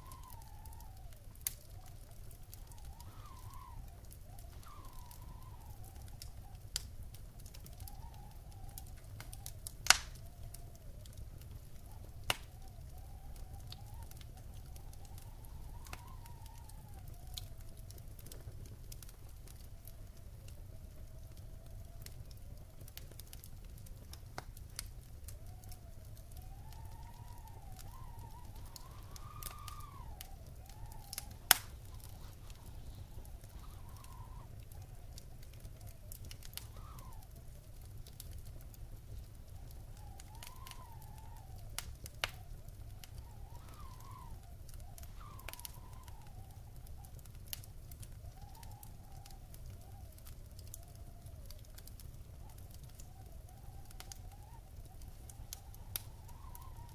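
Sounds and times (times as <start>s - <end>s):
low steady rumble: 0.0s - 48.3s
wood fire crackling and popping: 0.0s - 56.9s.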